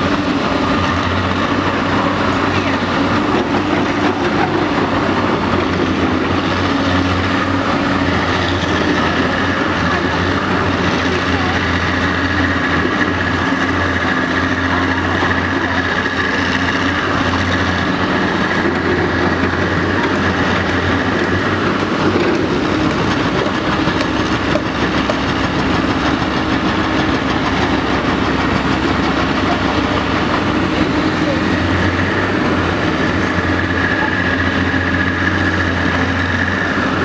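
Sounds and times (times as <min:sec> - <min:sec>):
excavator diesel engine under load: 0:00.0 - 0:37.0.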